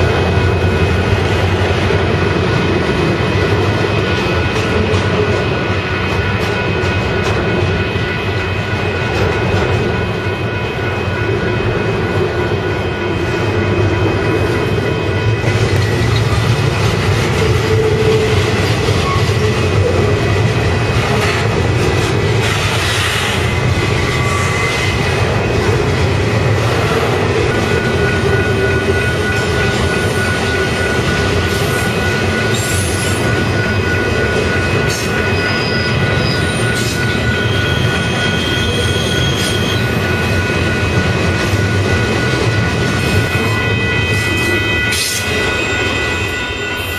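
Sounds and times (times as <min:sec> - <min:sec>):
train wheels rolling on rails: 0:00.0 - 0:46.9.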